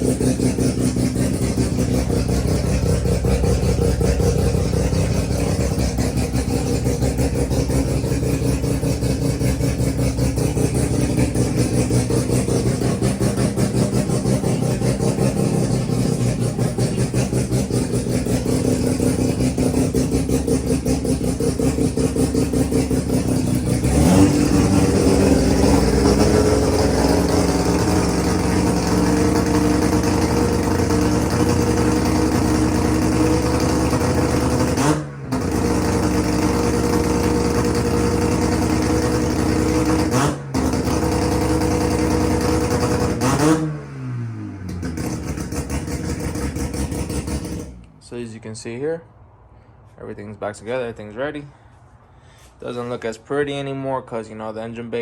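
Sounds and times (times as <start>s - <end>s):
rotary engine choppy idle and revving: 0.0s - 55.0s.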